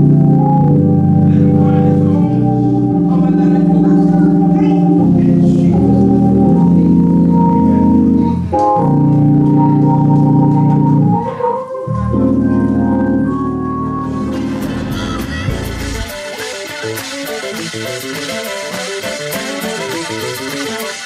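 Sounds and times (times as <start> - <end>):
organ chords: 0.0 - 21.0.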